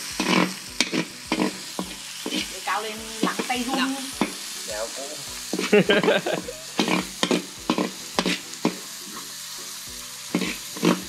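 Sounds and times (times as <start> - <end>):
garlic sizzling in hot oil: 0.0 - 11.0
utensil scraping and knocking pan: 0.1 - 4.4, 5.5 - 9.3, 10.3 - 11.0.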